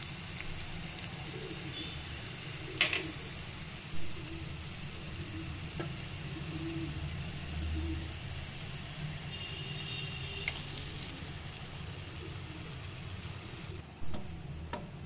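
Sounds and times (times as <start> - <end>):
food sizzling in frying pan: 0.0 - 14.5.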